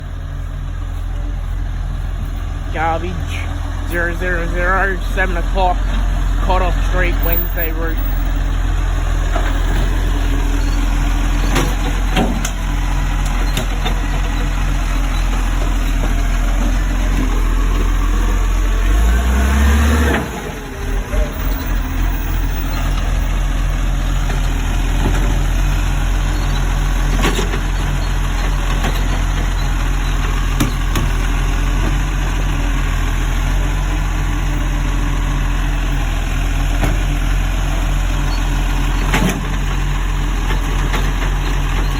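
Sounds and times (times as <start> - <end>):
garbage truck engine idling: 0.0 - 41.9.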